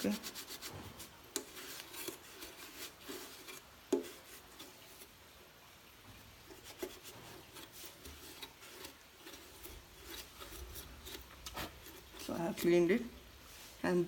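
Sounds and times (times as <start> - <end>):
rubbing and scratching on metal: 0.0 - 5.2, 6.4 - 13.7.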